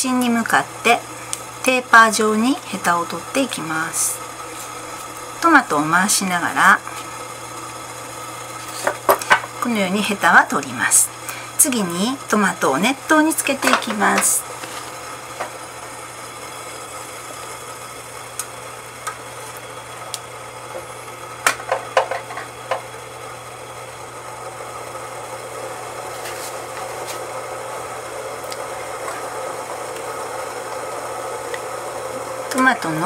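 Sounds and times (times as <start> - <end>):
pot of water heating: 0.0 - 33.0.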